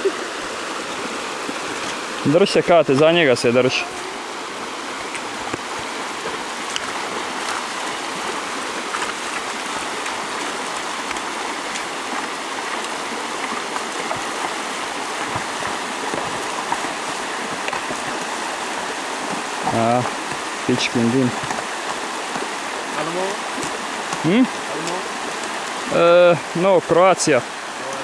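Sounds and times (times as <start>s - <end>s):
river rushing over stones: 0.0s - 28.0s.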